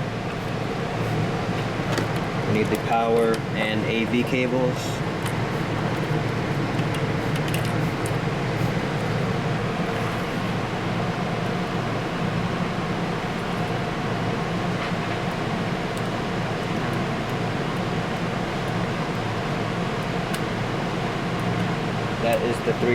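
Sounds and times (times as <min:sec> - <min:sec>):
fan-like hum: 0:00.0 - 0:22.9.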